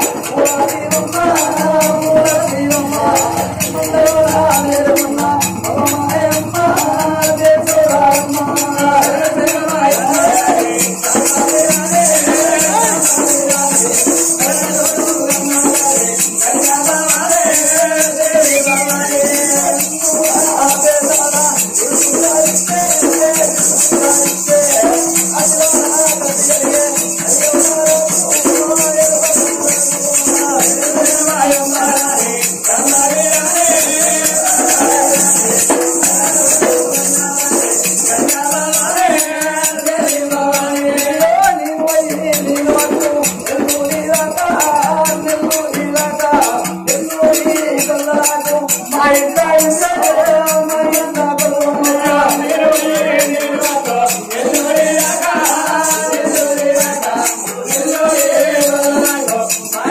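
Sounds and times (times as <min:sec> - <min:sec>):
men singing: 0:00.0 - 0:59.9
steady drum beat: 0:00.0 - 0:59.9.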